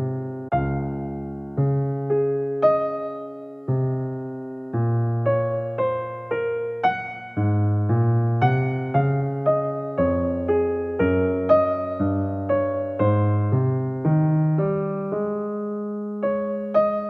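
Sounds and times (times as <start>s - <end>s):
gentle piano-like keyboard music: 0.0s - 17.0s.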